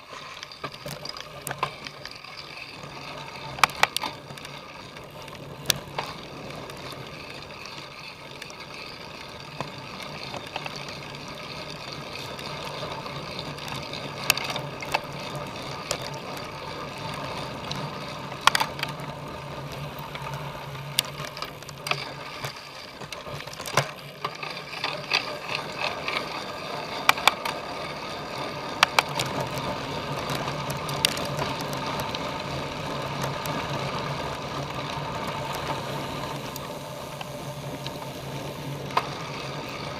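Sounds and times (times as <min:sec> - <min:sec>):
bike chain and frame rattling: 0:00.0 - 0:39.9
bike tyres and drivetrain humming: 0:00.0 - 0:39.9.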